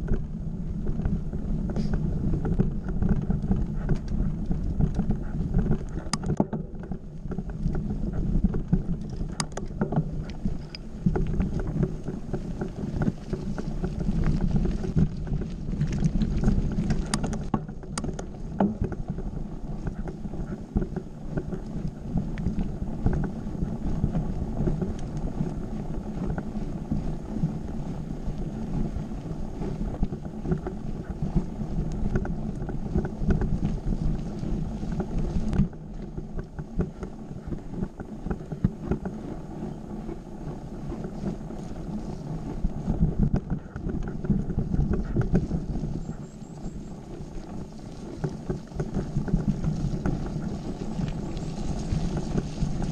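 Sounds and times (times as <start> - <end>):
bike rattles and knocks: 0.0 - 52.9
bike tyres rumbling on dirt: 0.0 - 52.9
wind on microphone: 0.0 - 52.9.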